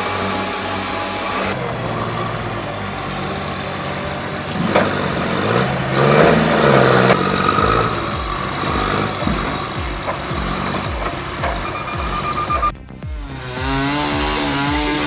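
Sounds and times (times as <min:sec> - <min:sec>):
engine running and revving: 0:00.0 - 0:15.0.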